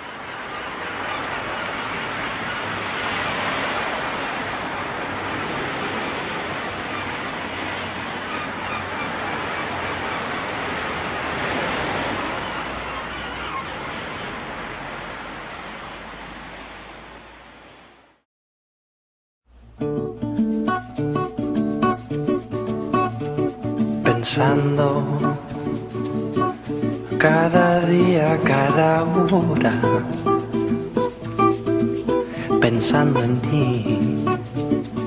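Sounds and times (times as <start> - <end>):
ocean waves breaking: 0.0 - 18.2, 20.0 - 35.0.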